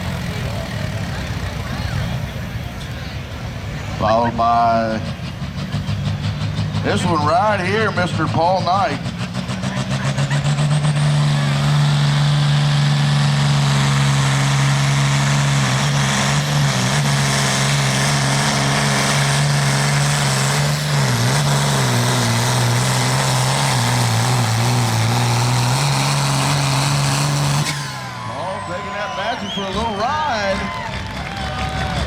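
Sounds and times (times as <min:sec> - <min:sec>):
tractor engine at high revs: 0:00.0 - 0:32.0.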